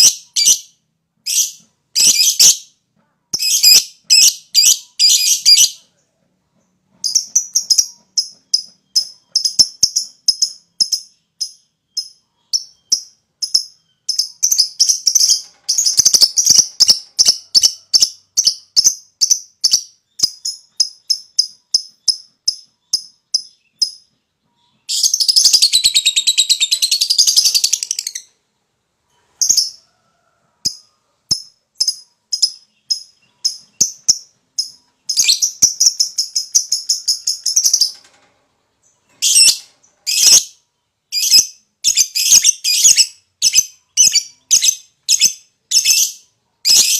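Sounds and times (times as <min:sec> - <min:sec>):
lovebird chirping: 0:00.0 - 0:06.0, 0:06.9 - 0:28.5, 0:29.1 - 0:38.1, 0:38.8 - 0:46.9.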